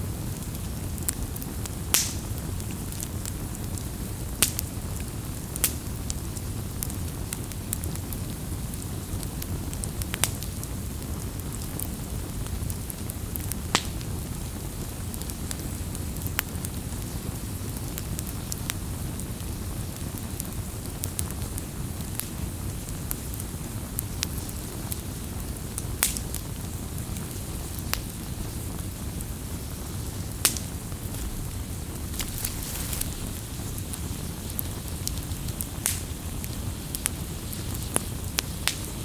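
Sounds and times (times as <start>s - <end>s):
campfire rumbling: 0.0s - 39.0s
campfire crackling and popping: 0.1s - 39.0s.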